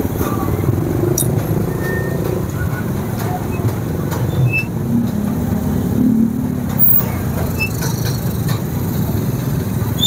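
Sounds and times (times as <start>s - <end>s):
car engines running: 0.0s - 10.0s
low rumble of street traffic: 0.0s - 10.0s.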